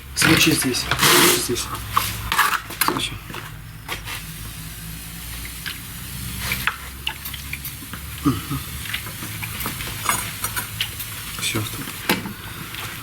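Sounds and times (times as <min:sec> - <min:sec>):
scraping and stirring mortar: 0:00.2 - 0:04.6, 0:05.3 - 0:13.0.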